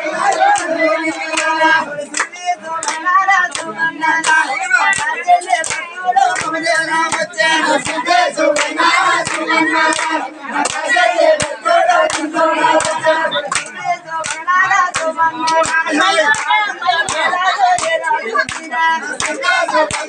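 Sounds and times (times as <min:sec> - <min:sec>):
men singing a chant: 0:00.0 - 0:20.0
hand claps: 0:00.2 - 0:20.0.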